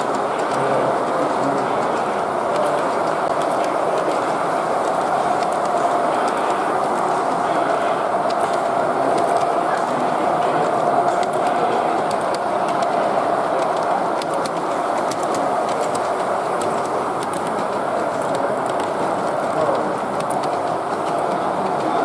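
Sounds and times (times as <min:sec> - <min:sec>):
model locomotive whirring on track: 0:00.0 - 0:22.0.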